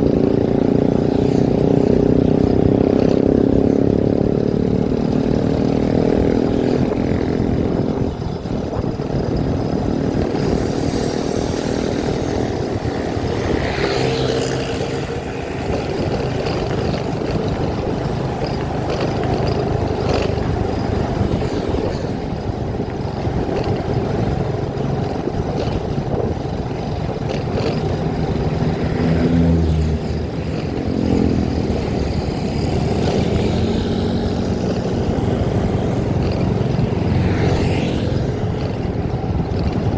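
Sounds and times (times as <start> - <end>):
road and wind rumble: 0.0 - 39.9
vehicle engine running: 0.0 - 39.9.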